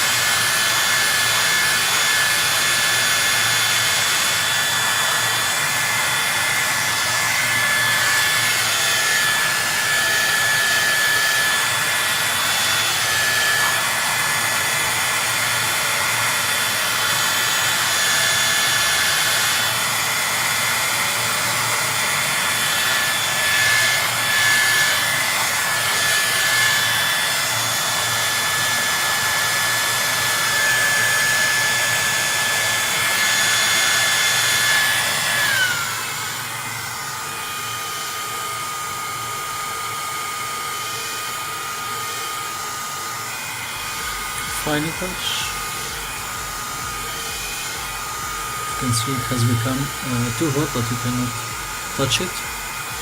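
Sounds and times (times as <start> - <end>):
heat gun blowing: 0.0 - 53.0.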